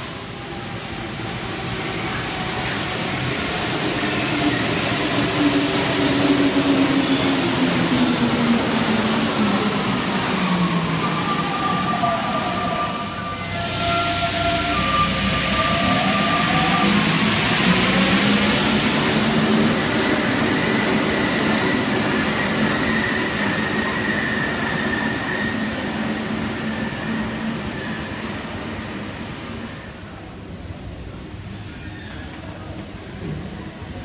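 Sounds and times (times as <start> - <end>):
train rolling noise: 0.0 - 34.0.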